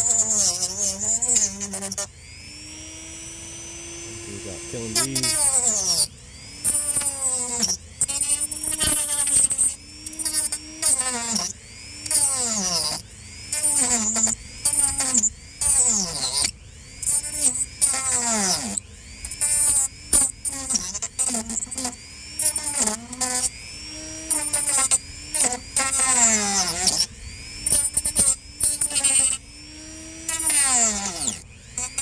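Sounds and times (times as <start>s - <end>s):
power tool cutting gourd shell: 0.0s - 32.0s.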